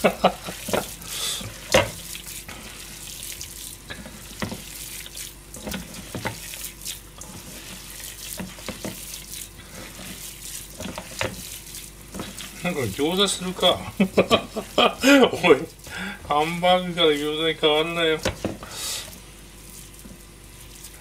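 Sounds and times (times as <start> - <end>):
faint steady hum: 0.0 - 21.0
hands squelching meat mixture: 0.0 - 21.0.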